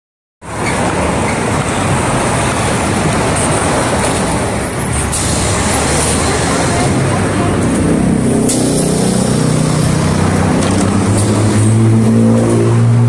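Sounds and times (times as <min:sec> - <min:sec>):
road traffic rumble: 0:00.4 - 0:13.0.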